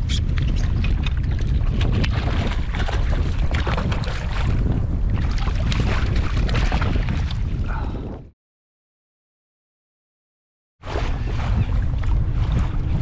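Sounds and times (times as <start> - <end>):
wind buffeting microphone: 0.0 - 8.3, 10.8 - 13.0.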